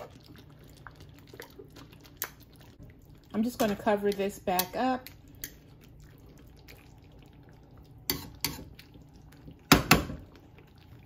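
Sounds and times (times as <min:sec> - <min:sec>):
gravy simmering in a skillet: 0:00.0 - 0:11.0.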